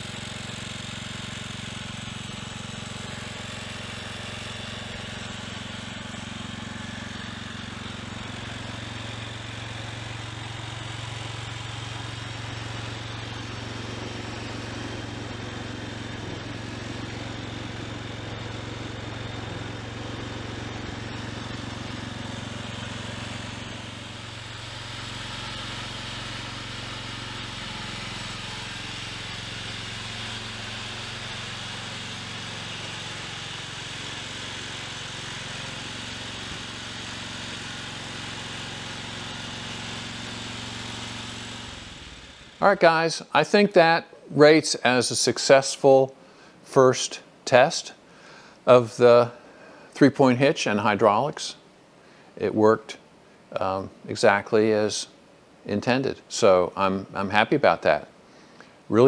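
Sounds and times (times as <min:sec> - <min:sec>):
garden tractor engine running: 0:00.0 - 0:51.6.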